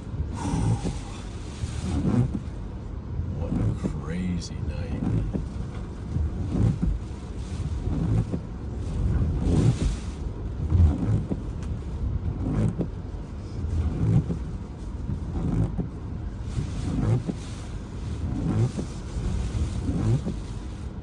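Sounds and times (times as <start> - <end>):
wind buffeting a car: 0.0 - 21.0.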